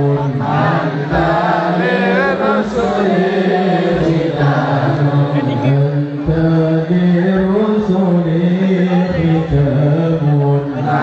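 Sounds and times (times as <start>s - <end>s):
men chanting devotional song: 0.0s - 11.0s.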